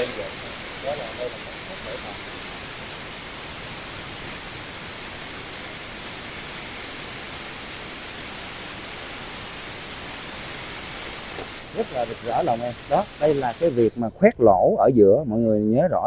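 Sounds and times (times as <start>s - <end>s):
plasma cutter hissing: 0.0s - 14.3s.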